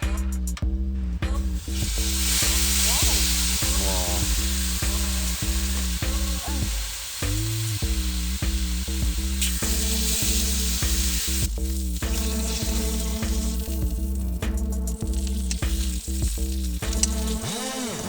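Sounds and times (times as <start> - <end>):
background music with beat: 0.0 - 18.0
food sizzling in a pan: 1.7 - 14.2, 15.0 - 17.4.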